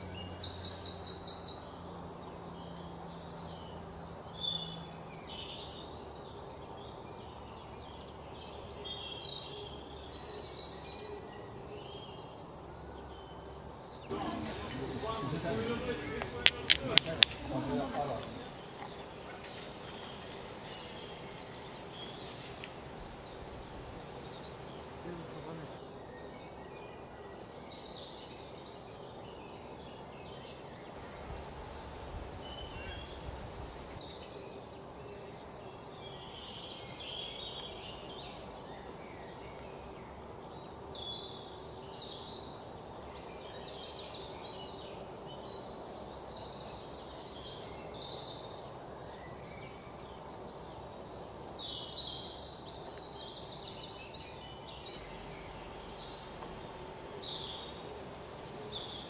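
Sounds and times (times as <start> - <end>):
small birds chirping: 0.0 - 59.0
steady outdoor hiss: 0.0 - 59.0.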